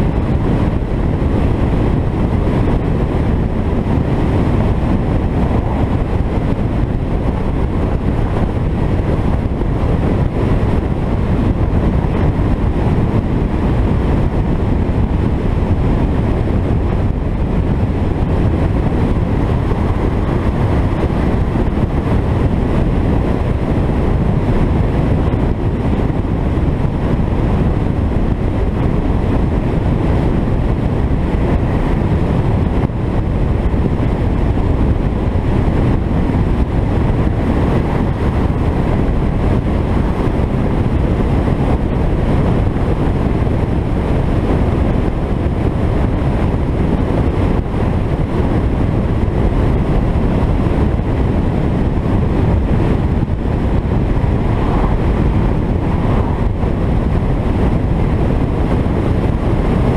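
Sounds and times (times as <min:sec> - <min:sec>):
car engine and tyre rumble: 0:00.0 - 0:59.9
wind buffeting microphone: 0:00.0 - 0:59.9.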